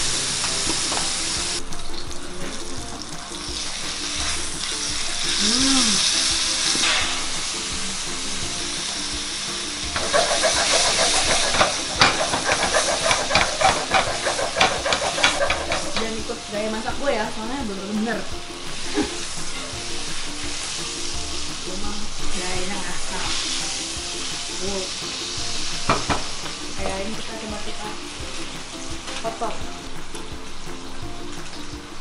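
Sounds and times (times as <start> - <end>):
background music: 0.0 - 32.0
steak sizzling in a frying pan: 0.0 - 32.0.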